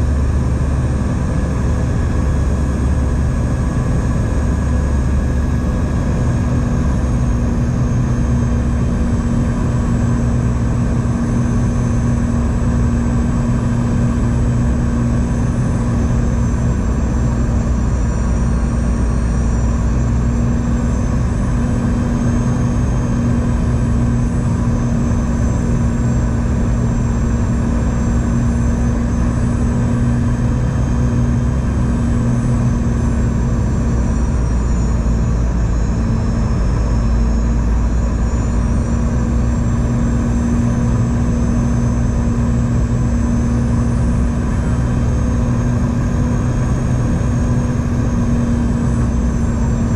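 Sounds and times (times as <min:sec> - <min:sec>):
jet engine drone inside cabin: 0:00.0 - 0:49.9.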